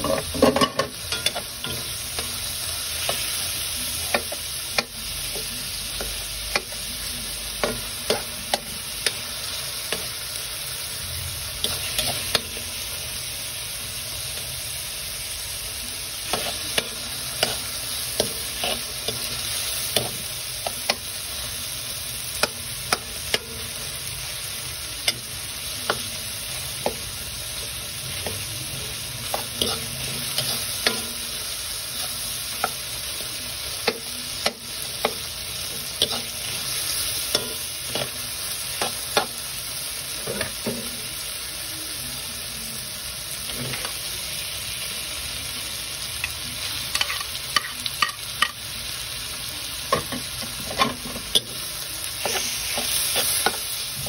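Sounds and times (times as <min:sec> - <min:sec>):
vegetables sizzling in oil: 0:00.0 - 0:54.0.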